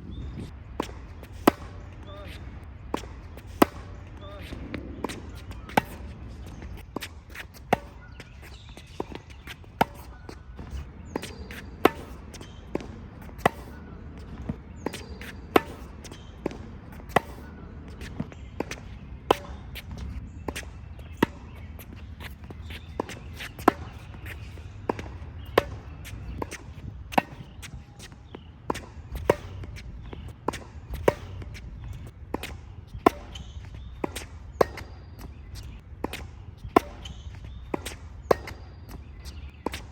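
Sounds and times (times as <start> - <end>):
tennis balls hit by rackets: 0.3 - 39.9.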